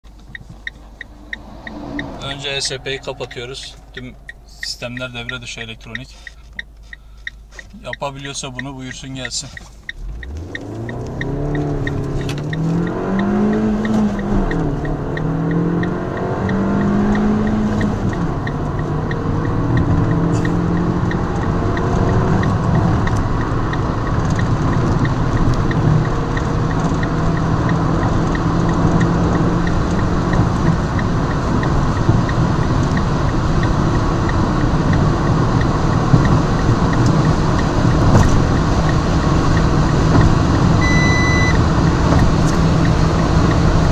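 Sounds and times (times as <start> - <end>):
car engine accelerating: 0.0 - 43.9
road and wind noise: 0.0 - 43.9.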